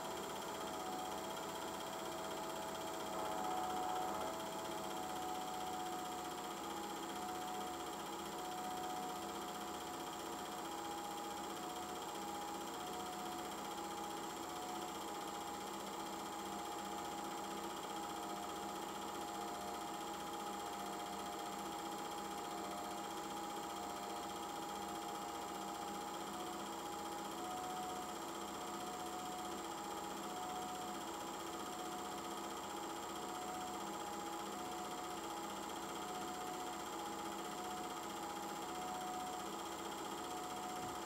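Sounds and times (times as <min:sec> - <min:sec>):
film projector running: 0:00.0 - 0:41.0.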